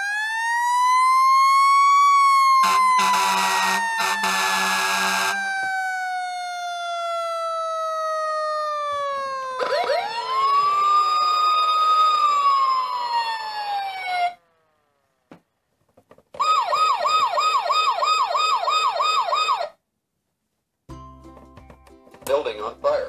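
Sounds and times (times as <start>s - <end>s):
fast yelp siren: 0.0s - 15.1s, 16.4s - 19.8s
toy fire truck siren wail: 0.0s - 15.1s, 16.4s - 19.8s.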